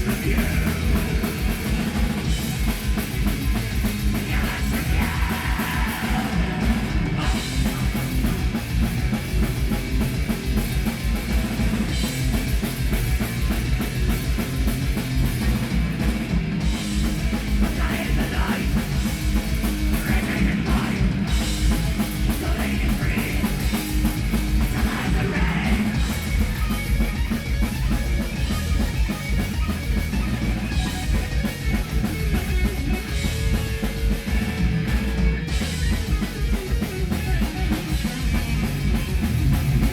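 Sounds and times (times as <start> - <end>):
heavy metal band playing live: 0.0 - 39.9.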